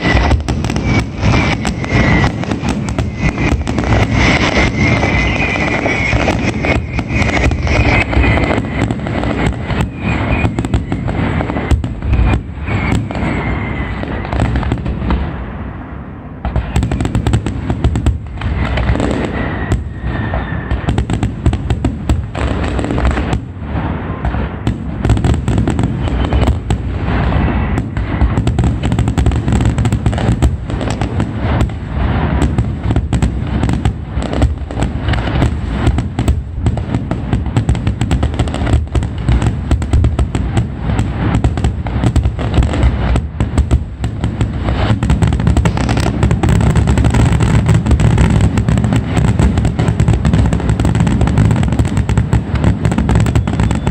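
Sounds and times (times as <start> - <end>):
fireworks bangs and cracks: 0.0 - 53.9.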